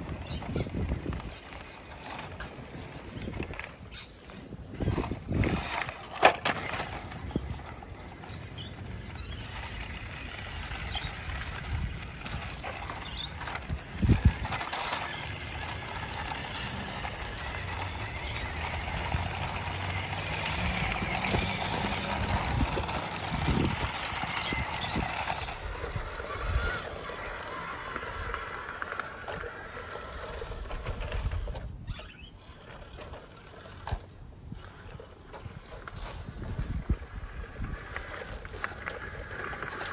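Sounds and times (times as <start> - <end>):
toy truck motor and gears: 0.0 - 39.9.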